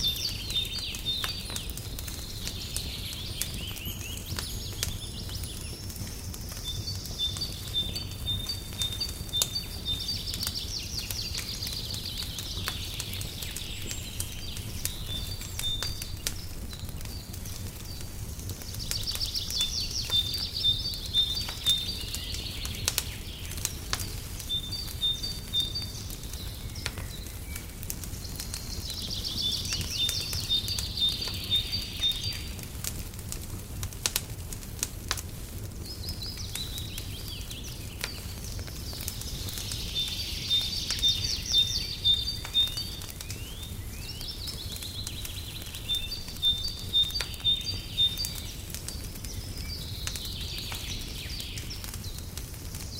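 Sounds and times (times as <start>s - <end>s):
songbird singing: 0.0s - 32.8s, 35.8s - 52.9s
fireplace crackling and popping: 0.0s - 52.9s.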